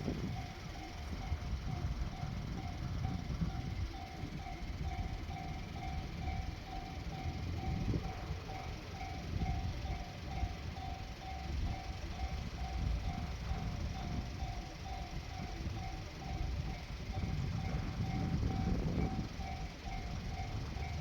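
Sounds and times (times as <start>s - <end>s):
level-crossing warning bell ringing: 0.0s - 21.0s
steady low rumble: 0.0s - 21.0s.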